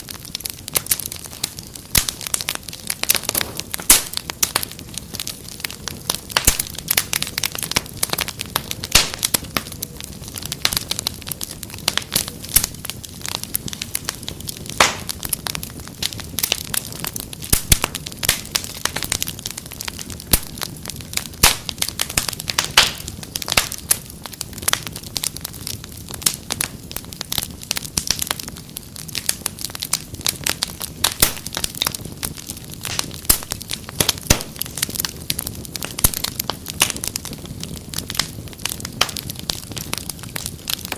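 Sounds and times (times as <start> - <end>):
wood fire popping and snapping: 0.0 - 40.9.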